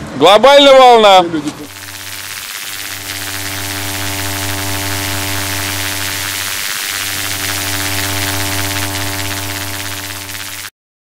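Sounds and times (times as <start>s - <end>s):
crackling electric hiss: 1.6s - 10.8s
electric hum: 1.6s - 10.8s.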